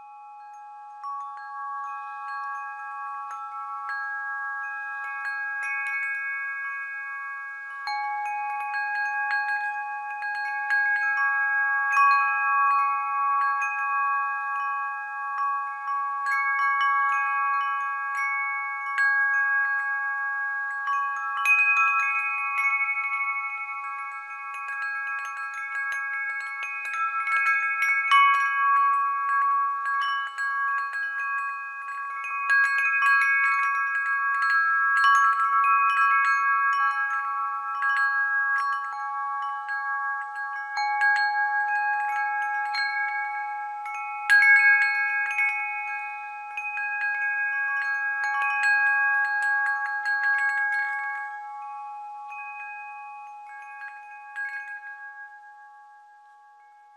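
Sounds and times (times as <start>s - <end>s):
chime-like bell music: 0.0s - 56.9s.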